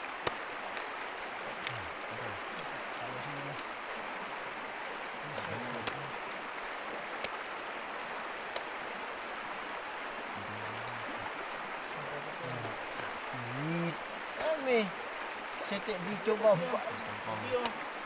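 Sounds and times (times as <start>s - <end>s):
stream running over stones: 0.0s - 18.0s.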